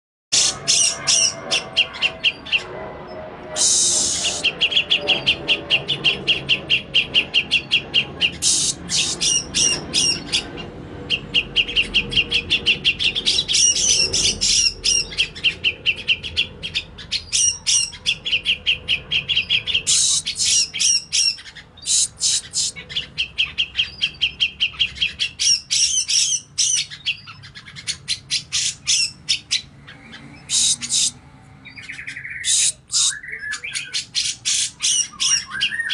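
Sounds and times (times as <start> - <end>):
bird harsh chattering calls: 0.3 - 2.9, 3.5 - 35.9.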